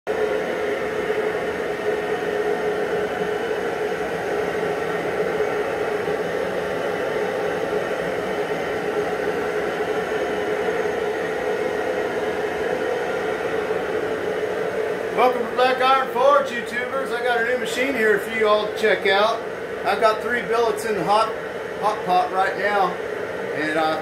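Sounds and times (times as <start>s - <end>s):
shop machinery humming: 0.1s - 24.0s.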